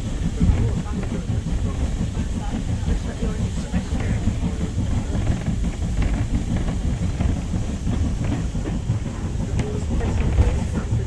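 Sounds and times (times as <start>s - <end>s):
train carriage rumble: 0.0s - 11.0s
wheels clicking on rails: 0.0s - 11.0s.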